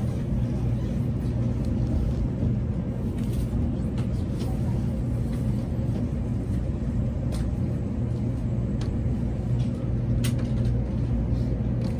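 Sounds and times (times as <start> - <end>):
train rumble and hum: 0.0 - 11.9.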